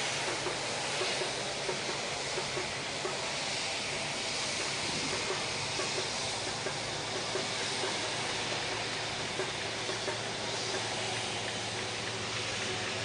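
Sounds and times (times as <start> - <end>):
jet engines taxiing: 0.0 - 13.0.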